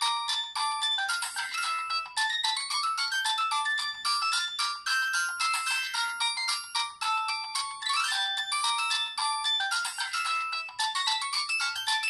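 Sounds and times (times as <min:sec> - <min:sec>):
phone ringtone melody: 0:00.0 - 0:12.0.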